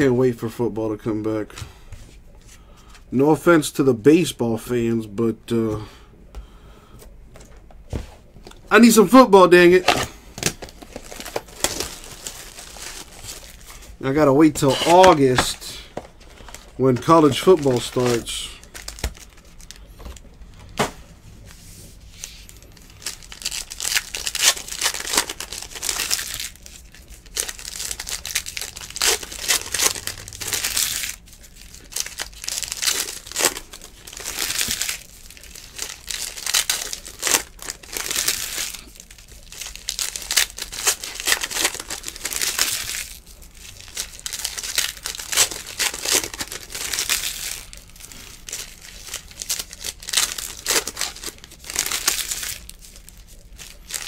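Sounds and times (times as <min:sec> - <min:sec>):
foil wrappers crinkling and tearing: 0:08.8 - 0:20.2, 0:22.1 - 0:54.0.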